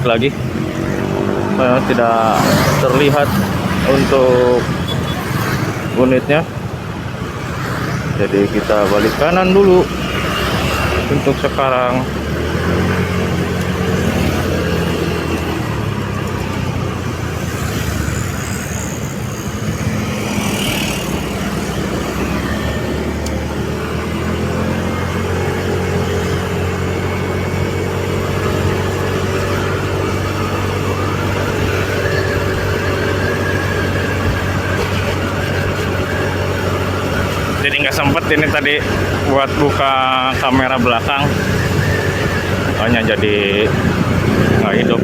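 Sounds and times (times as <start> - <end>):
ambulance engine running: 0.0 - 45.0
road noise: 0.0 - 45.0.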